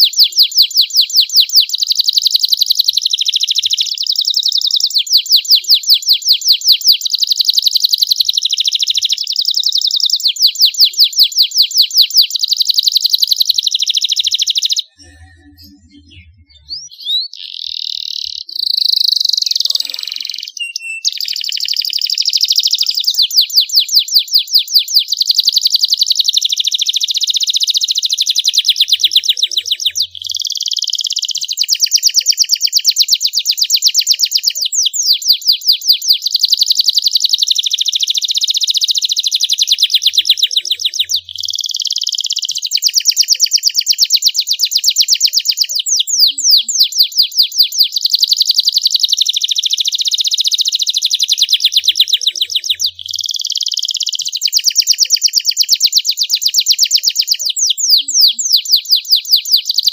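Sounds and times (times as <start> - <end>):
canary singing rapid trills: 0.0 - 59.9.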